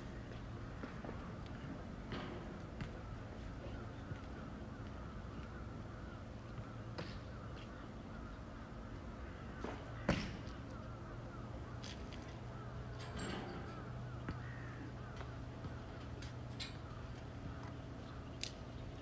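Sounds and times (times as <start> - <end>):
birds calling: 0.0 - 19.0
steady low hum: 0.0 - 19.0.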